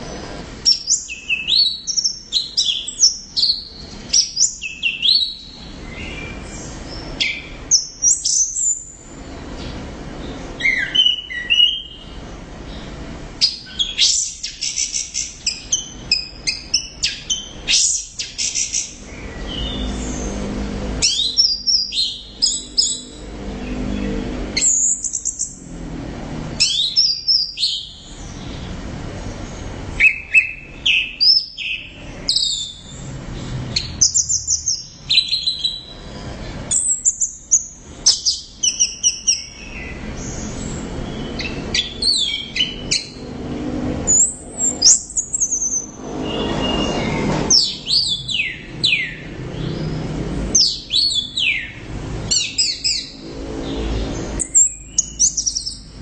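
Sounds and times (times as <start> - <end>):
steady background noise: 0.0 - 56.0.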